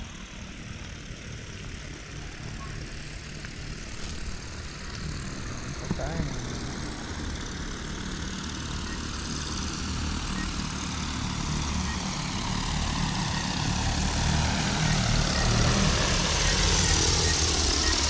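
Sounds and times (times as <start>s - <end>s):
drone rotors humming: 0.0s - 18.0s.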